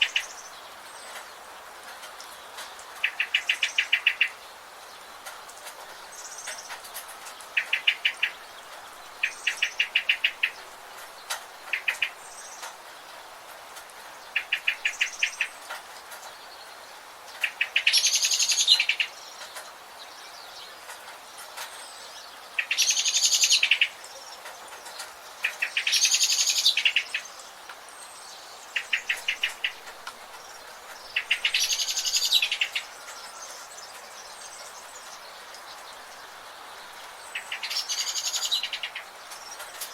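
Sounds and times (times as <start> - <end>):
bird songs high and full: 0.0 - 39.9
faint hiss: 0.0 - 39.9.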